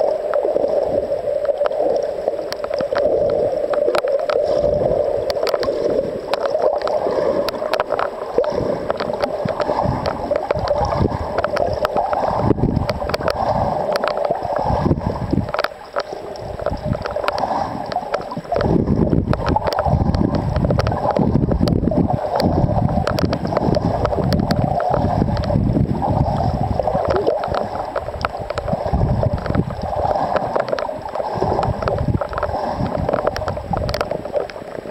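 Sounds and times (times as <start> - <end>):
underwater rushing water: 0.0 - 34.9
scattered clicks: 5.2 - 25.6, 26.4 - 34.9.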